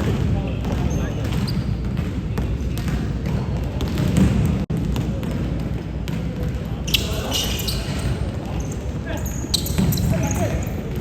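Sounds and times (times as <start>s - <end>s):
basketball dribbling: 0.0s - 11.0s.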